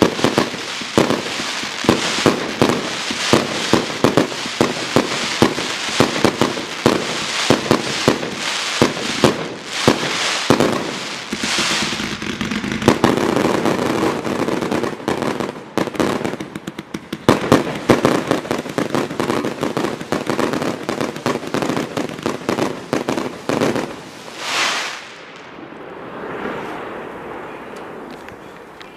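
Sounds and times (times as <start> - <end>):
firework hiss: 0.0 - 14.5, 17.4 - 28.2
firework bangs with crackle: 0.0 - 26.9.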